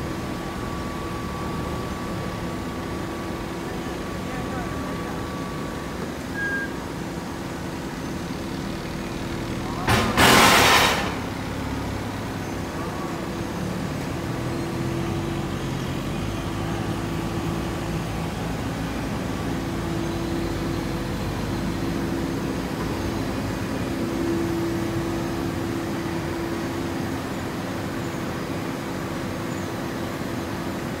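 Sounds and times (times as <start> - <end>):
industrial machine hum: 0.0 - 31.0.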